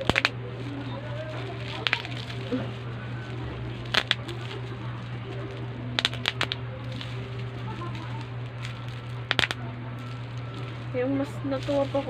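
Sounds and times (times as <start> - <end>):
small objects clicking and tapping: 0.0 - 12.0
steady low hum: 0.0 - 12.0.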